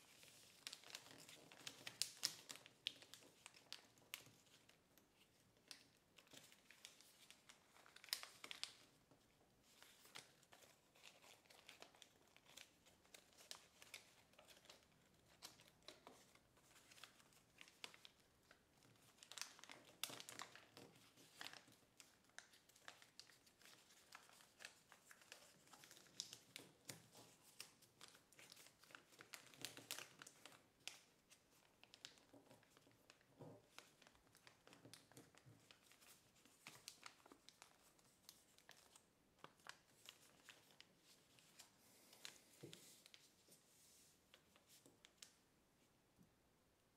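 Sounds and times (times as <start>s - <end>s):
paper crinkling and rustling: 0.0s - 45.4s.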